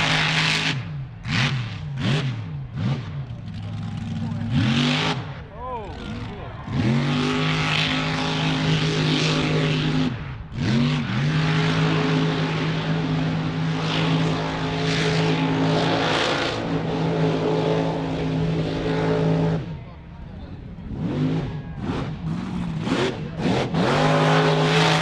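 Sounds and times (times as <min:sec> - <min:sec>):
truck engine revving: 0:00.0 - 0:20.0, 0:20.6 - 0:25.0.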